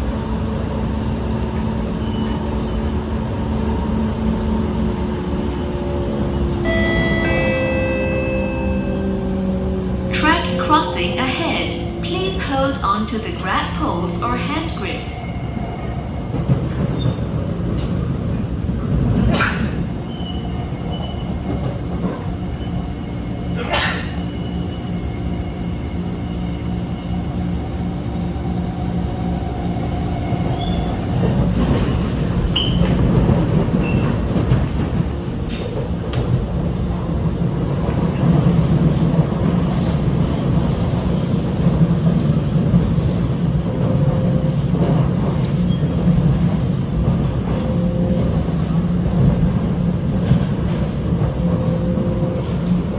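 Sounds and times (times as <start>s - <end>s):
metro train running: 0.0s - 52.9s.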